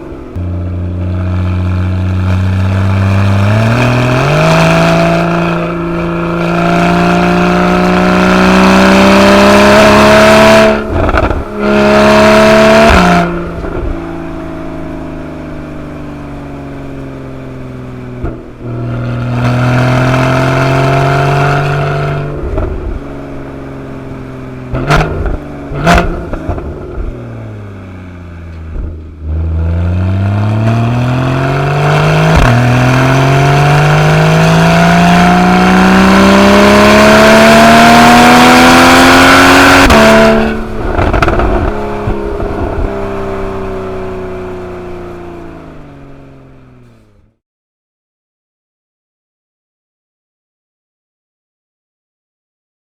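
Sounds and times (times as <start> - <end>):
car engine accelerating hard: 0.0 - 47.3.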